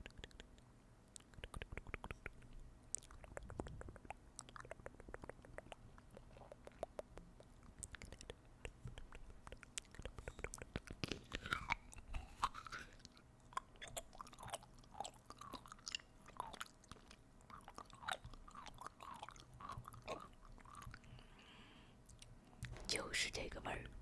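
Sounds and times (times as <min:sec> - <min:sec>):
wet mouth clicks and lip smacks: 0:00.0 - 0:21.1.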